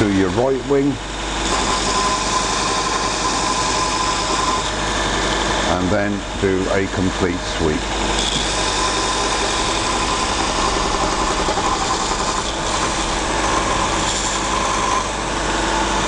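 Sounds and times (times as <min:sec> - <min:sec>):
motor humming: 0:00.0 - 0:16.0
abrasive belt grinding metal: 0:01.2 - 0:16.0.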